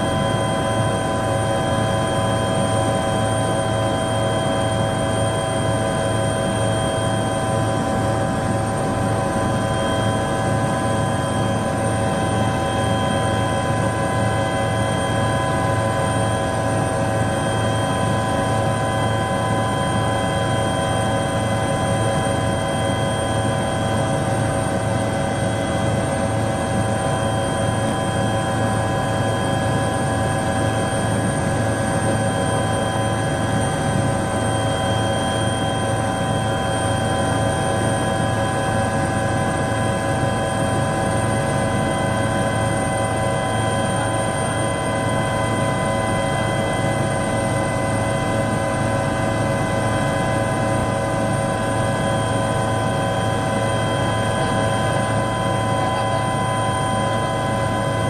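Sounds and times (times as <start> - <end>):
helicopter rotor drone: 0.0 - 58.0
high-pitched engine whines: 0.0 - 58.0.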